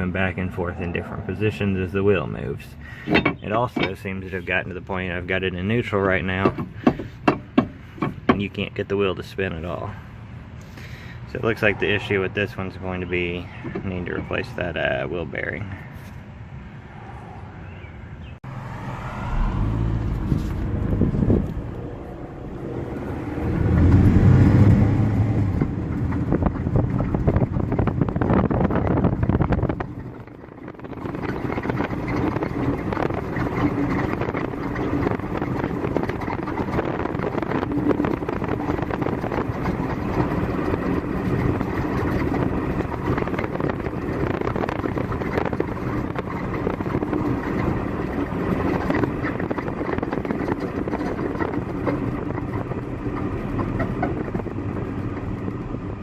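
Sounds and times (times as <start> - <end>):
vehicle engine rumble: 0.0 - 56.0.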